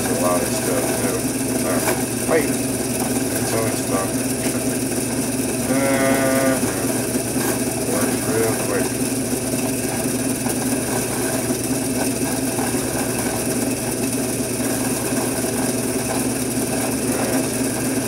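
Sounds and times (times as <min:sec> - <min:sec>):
abrasive wheel motor hum: 0:00.0 - 0:18.0
abrasive wheel scrubbing metal: 0:00.0 - 0:18.0.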